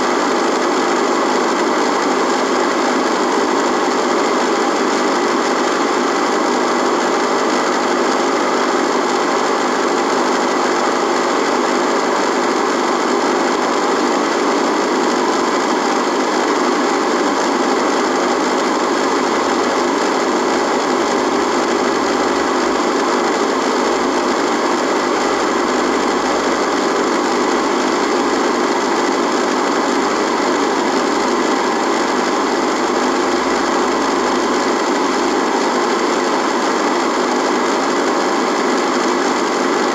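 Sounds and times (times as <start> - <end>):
radio electrical buzzing hiss: 0.2 - 37.0.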